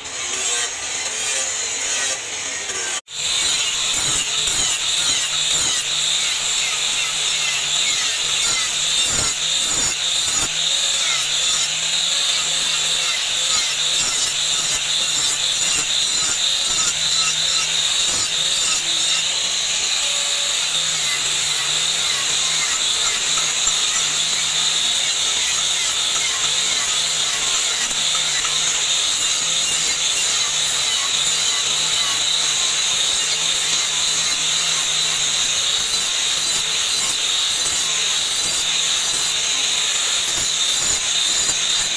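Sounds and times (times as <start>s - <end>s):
angle grinder grinding steel: 0.0s - 41.9s.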